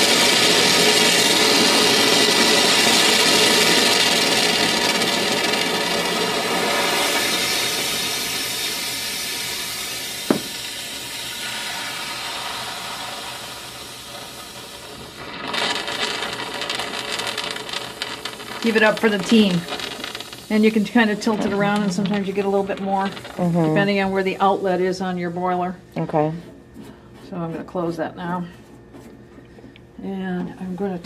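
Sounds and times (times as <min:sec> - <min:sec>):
hot water and steam hissing: 0:00.0 - 0:25.7.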